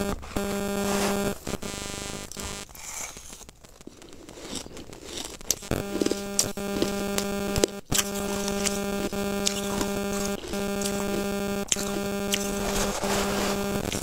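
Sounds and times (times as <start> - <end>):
steady hum: 0.0 - 14.0
chewing crunchy ice: 2.3 - 14.0.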